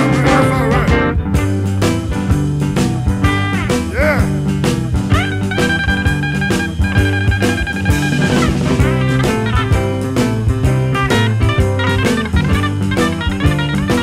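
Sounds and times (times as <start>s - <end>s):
blues band playing: 0.0s - 14.0s.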